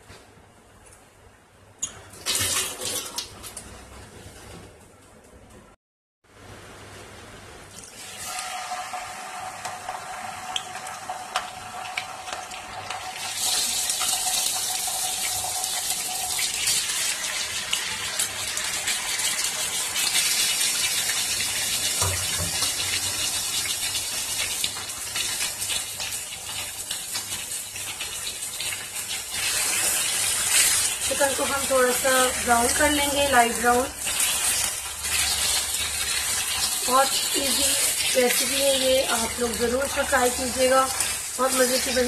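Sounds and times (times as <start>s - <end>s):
chicken sizzling in hot oil: 7.8s - 42.0s.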